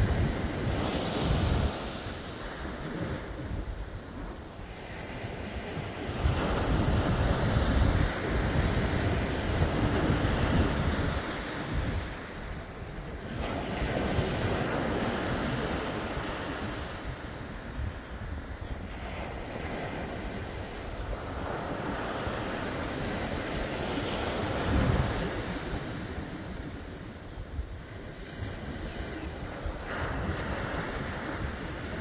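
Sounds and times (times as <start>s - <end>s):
ocean surf breaking on beach: 0.0s - 32.0s
wind buffeting microphone: 0.0s - 32.0s.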